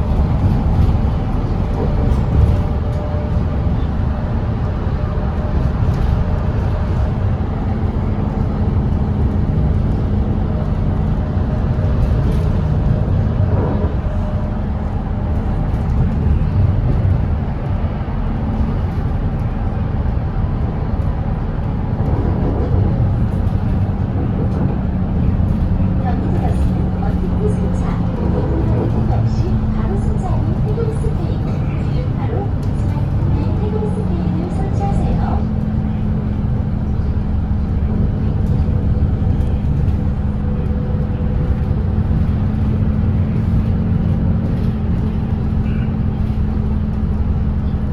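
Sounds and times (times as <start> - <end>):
diesel bus engine droning: 0.0 - 47.9
road rumble: 0.0 - 47.9.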